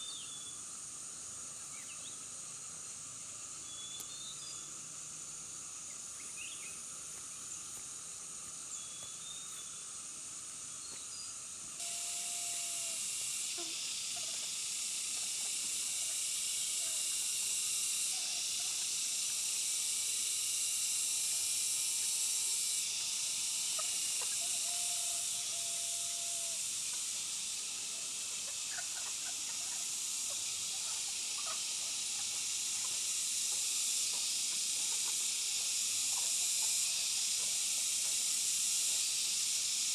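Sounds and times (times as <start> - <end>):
high-pitched outdoor hiss: 0.0 - 39.9.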